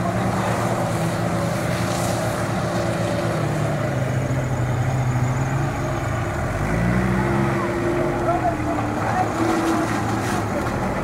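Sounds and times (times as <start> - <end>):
suv engine driving off-road: 0.0 - 11.0.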